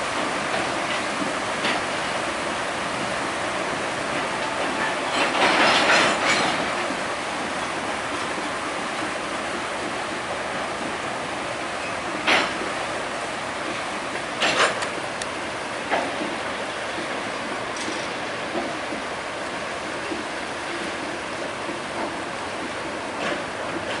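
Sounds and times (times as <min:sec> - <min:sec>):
train clatter: 0:00.0 - 0:24.0
train wheels splashing through water: 0:00.0 - 0:24.0.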